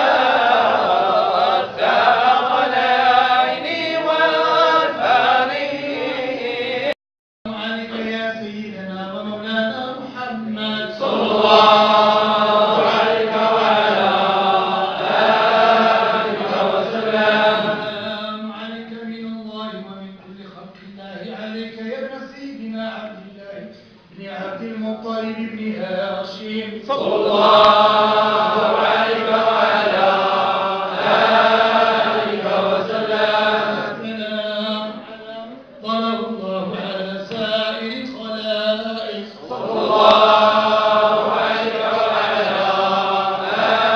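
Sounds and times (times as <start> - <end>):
men chanting in unison: 0.0 - 7.0, 7.6 - 18.5, 24.2 - 43.9.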